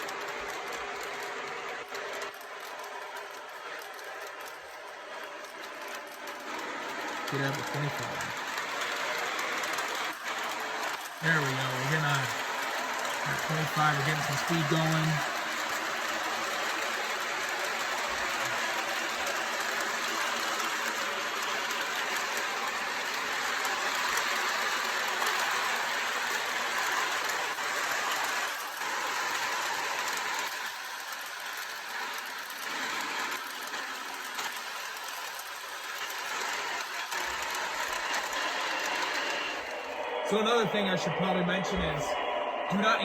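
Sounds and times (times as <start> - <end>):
model train motors whirring on track: 0.0 - 43.0.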